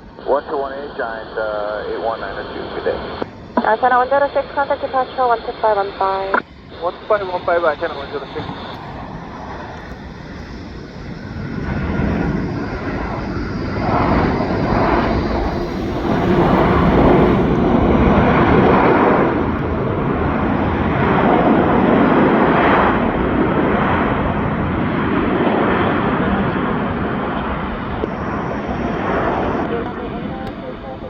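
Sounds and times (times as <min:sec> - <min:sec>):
jet airliner engines roaring: 0:00.0 - 0:31.0.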